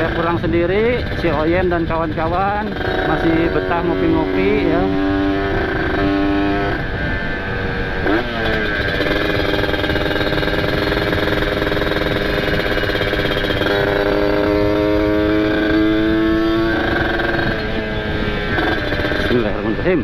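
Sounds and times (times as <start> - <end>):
two-stroke motorcycle engine: 0.0 - 20.0.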